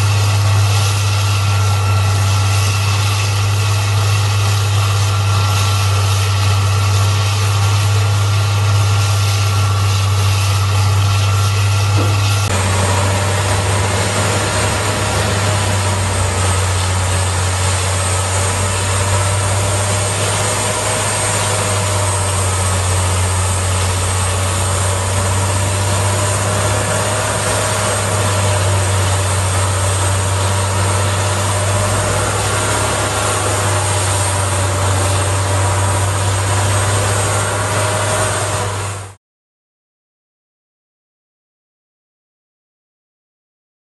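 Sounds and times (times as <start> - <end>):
continuous grinding noise: 0.0 - 39.2
heavy diesel engine drone: 0.0 - 39.2
high machine whine: 0.0 - 39.2.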